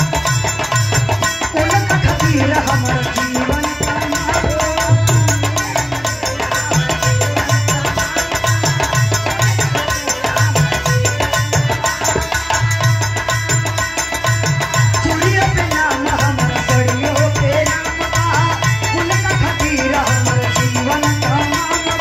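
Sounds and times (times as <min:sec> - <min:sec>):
drums beating: 0:00.0 - 0:22.0.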